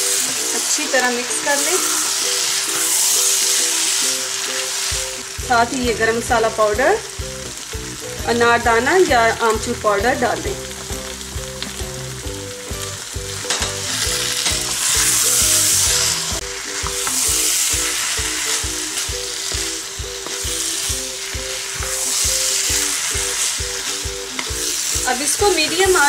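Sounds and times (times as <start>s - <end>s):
chickpeas sizzling in a wok: 0.0s - 26.0s.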